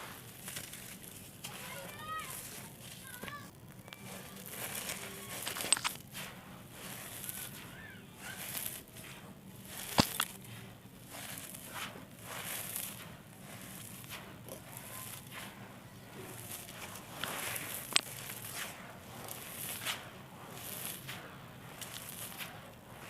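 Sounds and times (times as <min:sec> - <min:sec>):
clay blocks crumbling and crunching: 0:00.0 - 0:23.0.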